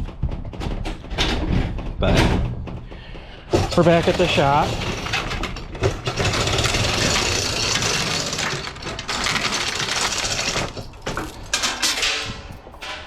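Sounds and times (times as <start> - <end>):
rapid mechanical clatter: 0.0 - 13.0.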